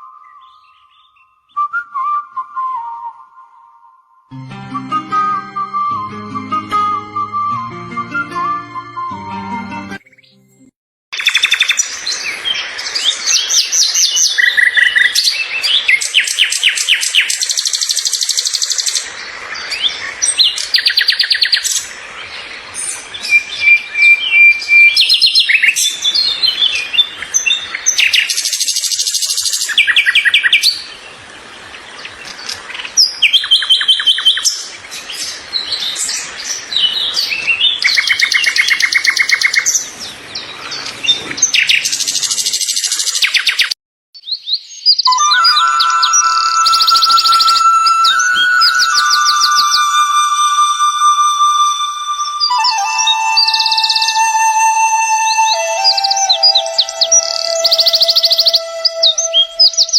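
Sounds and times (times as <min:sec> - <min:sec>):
songbirds chirping and singing: 0:00.2 - 0:01.7, 0:11.2 - 0:59.9.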